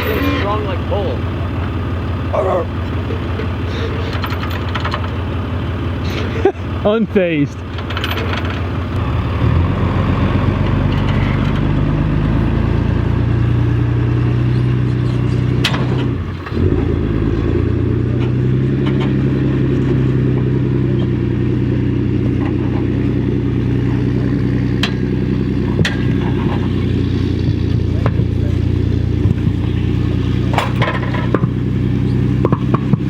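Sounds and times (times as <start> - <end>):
truck engine under load: 0.0 - 33.0.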